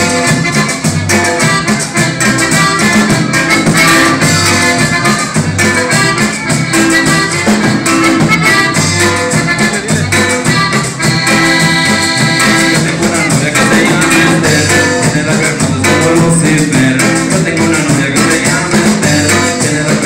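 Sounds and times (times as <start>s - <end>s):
accordion melody: 0.0s - 20.0s
drums: 0.0s - 20.0s
electric bass: 0.0s - 20.0s
guitar: 0.0s - 20.0s.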